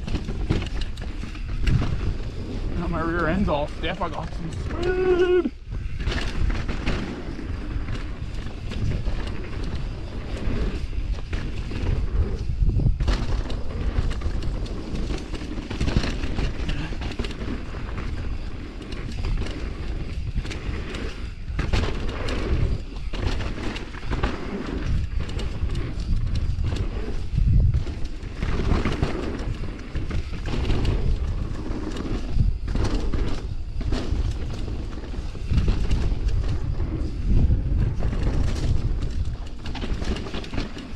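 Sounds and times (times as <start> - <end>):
bike knocking over bumps: 0.0 - 2.8, 5.7 - 40.9
tyres rolling on dirt: 0.0 - 40.9
wind buffeting: 0.0 - 40.9.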